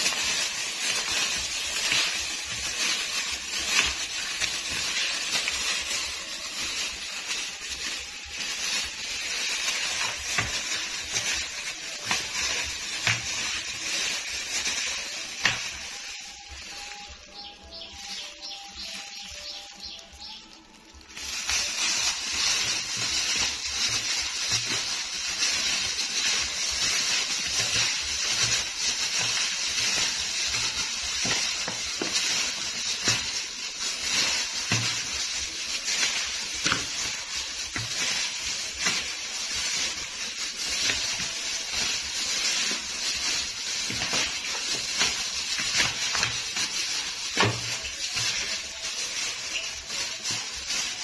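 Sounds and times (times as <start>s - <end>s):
plastic glove crinkling: 0.0s - 51.0s.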